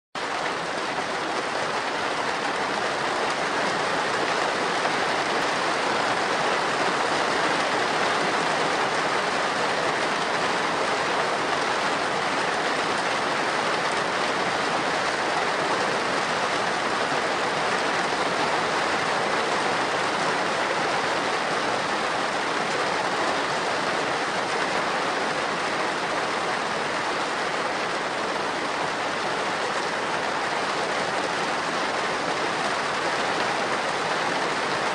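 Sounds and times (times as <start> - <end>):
heavy rain on a roof: 0.2 - 34.9.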